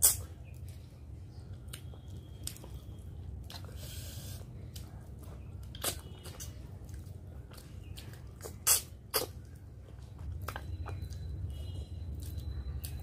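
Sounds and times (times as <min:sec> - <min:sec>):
chewing with wet clicks: 0:00.0 - 0:13.0.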